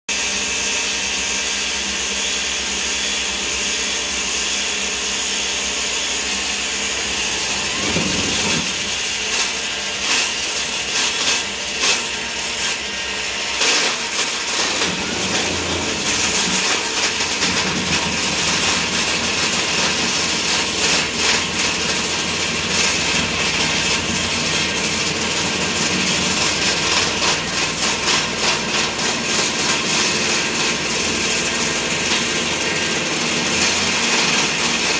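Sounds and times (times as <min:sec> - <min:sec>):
table saw cutting wood: 0:00.1 - 0:34.9.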